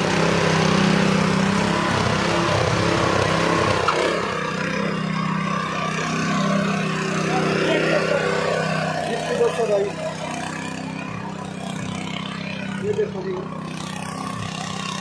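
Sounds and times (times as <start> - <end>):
power tiller engine running: 0.0 - 15.0
tines churning soil: 0.0 - 15.0.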